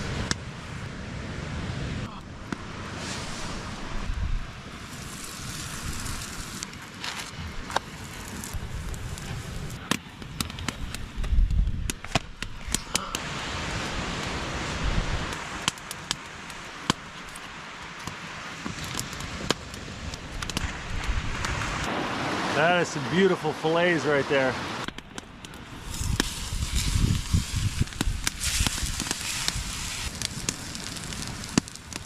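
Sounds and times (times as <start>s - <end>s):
wind rumbling on microphone: 0.0s - 17.5s, 18.6s - 22.5s, 24.8s - 32.0s
campfire crackling and popping: 0.0s - 22.7s, 24.8s - 32.0s.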